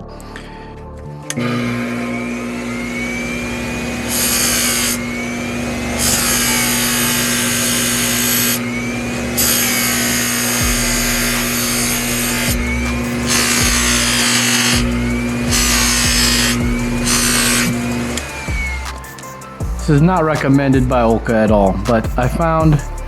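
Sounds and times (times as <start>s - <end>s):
small power tool humming: 1.3s - 23.0s
metal shaft rasping against abrasive: 2.6s - 23.0s.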